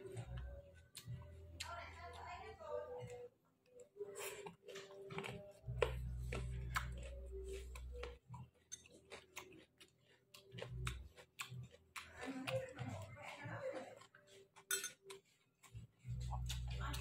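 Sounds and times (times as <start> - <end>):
man chewing: 0.0 - 1.7, 3.6 - 17.0.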